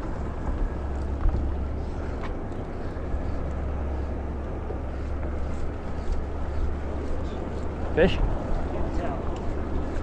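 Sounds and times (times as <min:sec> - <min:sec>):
boat low rumble: 0:00.0 - 0:10.0.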